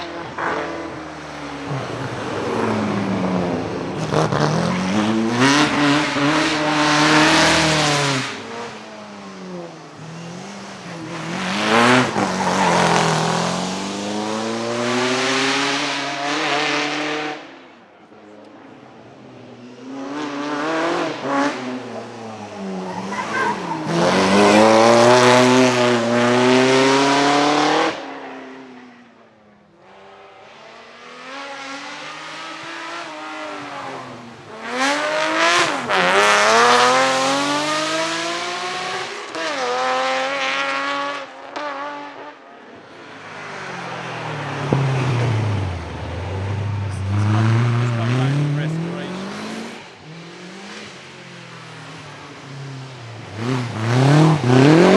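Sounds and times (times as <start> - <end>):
racing car engines accelerating: 0.0 - 54.9.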